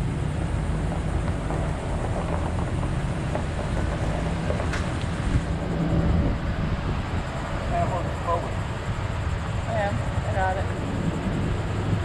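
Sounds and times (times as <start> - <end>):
road and wind hiss: 0.0 - 12.0
vehicle rumbling on paved road: 0.0 - 12.0.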